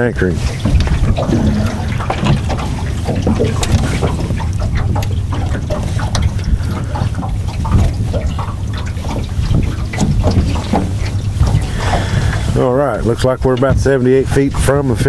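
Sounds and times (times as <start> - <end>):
steady low rumble: 0.0 - 15.0
water lapping against boat hull: 0.0 - 15.0.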